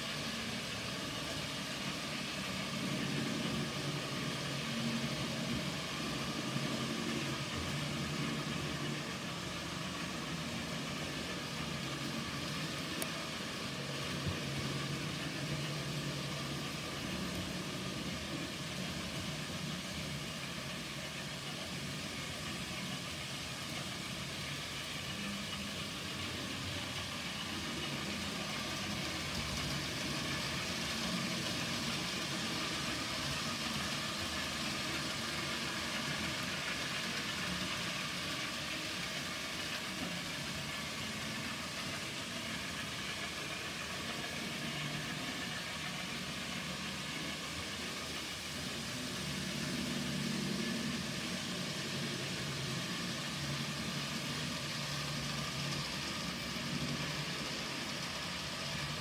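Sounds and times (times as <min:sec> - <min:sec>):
model train motors whirring: 0:00.0 - 0:59.0.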